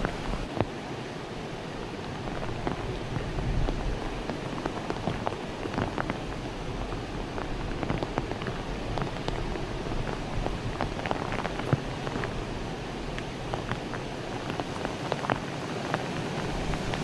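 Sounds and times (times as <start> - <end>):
raindrop ticks: 0.0 - 0.8, 1.9 - 17.0
steady rain: 0.0 - 17.0.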